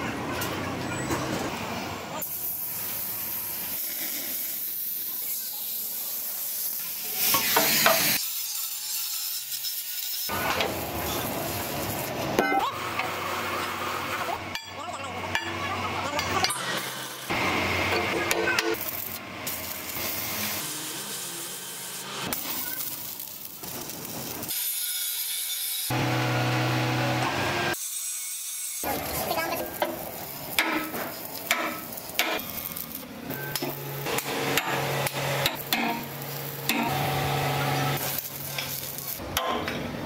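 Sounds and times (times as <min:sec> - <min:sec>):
arc welder crackling: 0:02.2 - 0:14.4, 0:15.4 - 0:39.8
angle grinder grinding steel: 0:02.2 - 0:39.3.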